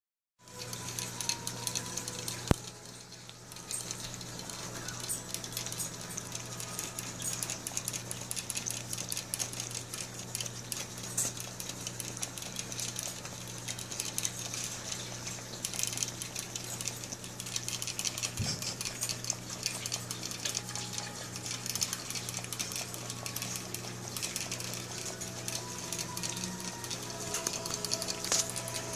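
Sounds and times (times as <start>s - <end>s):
metallic ticking of sipper tube: 0.4s - 28.9s.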